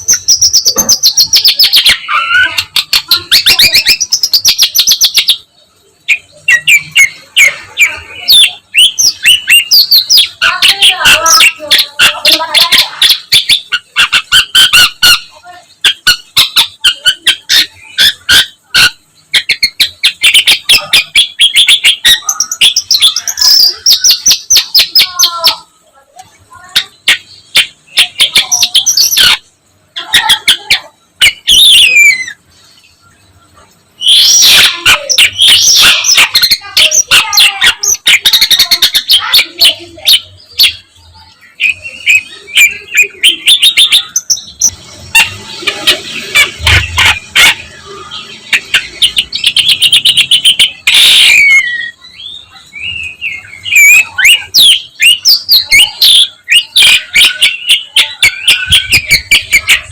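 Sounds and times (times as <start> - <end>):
bird singing chirps and trills: 0.0 - 59.9.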